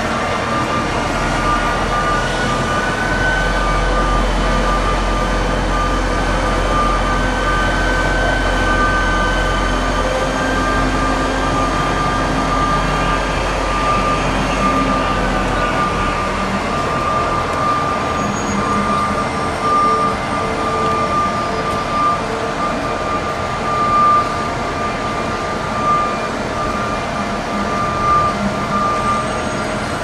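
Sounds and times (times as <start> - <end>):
heavy construction machinery running: 0.0 - 30.0.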